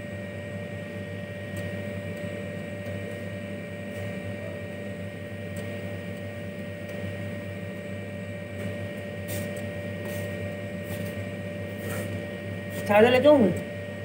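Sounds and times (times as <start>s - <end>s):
electrical machine hum: 0.0s - 14.0s.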